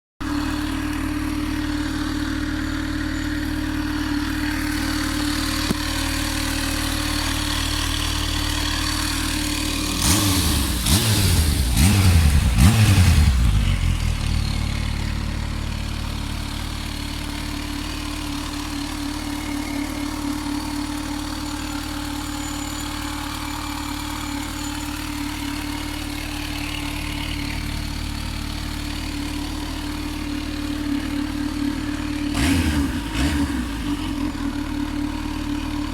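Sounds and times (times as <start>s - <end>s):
motorcycle engine idling: 0.2s - 35.9s
motorcycle throttle blips: 0.3s - 35.9s.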